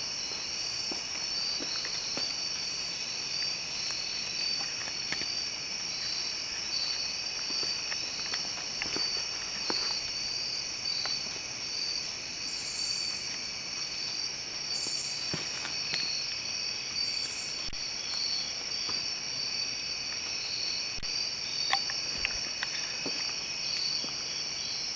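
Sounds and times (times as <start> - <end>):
crickets trilling: 0.0 - 24.9.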